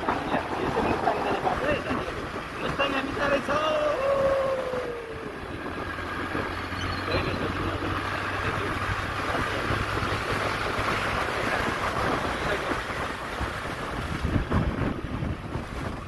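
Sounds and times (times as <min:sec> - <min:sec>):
moving vehicle noise: 0:00.0 - 0:16.0
wind on microphone: 0:00.0 - 0:16.0.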